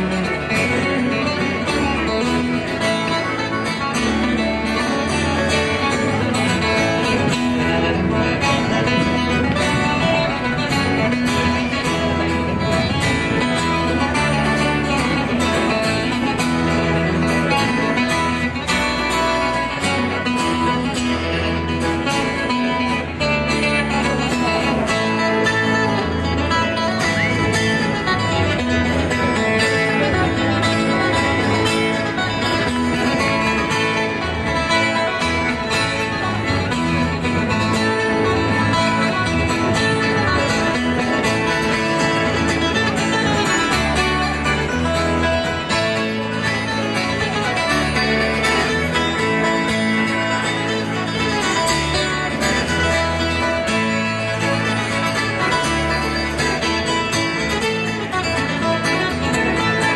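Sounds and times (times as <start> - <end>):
electric guitar: 0.0 - 59.9
fiddle: 0.0 - 59.9
strummed acoustic guitars: 0.0 - 59.9.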